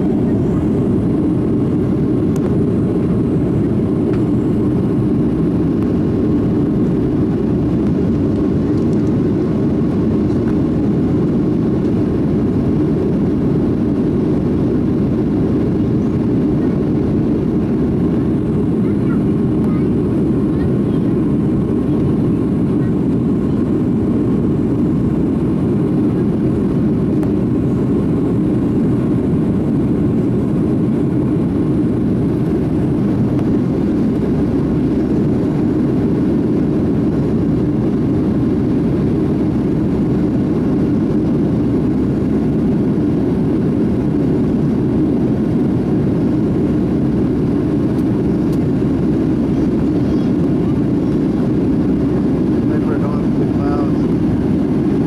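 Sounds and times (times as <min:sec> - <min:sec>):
airliner cabin engine noise: 0:00.0 - 0:55.0.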